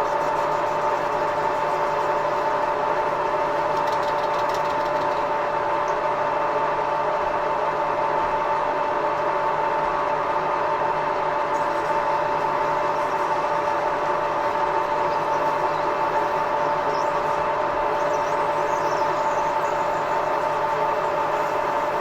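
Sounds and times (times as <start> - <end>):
lathe motor and gear whine: 0.0 - 22.0.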